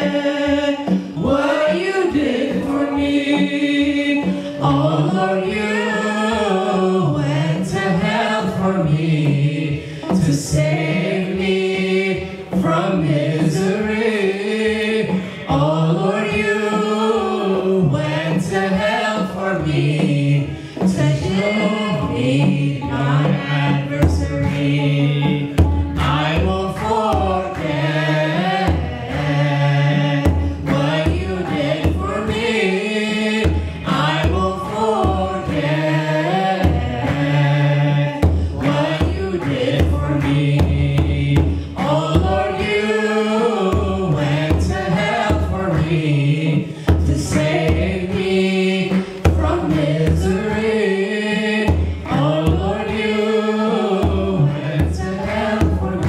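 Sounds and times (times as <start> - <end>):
men and women singing a hymn: 0.0 - 56.0
steady drum beat: 0.0 - 56.0.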